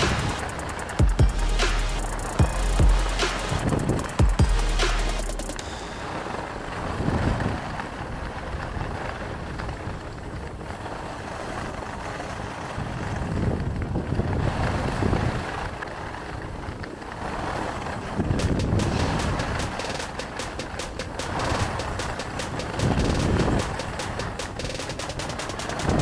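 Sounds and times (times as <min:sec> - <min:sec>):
skis sliding over snow: 0:00.0 - 0:26.0
wind buffeting microphone: 0:00.0 - 0:26.0.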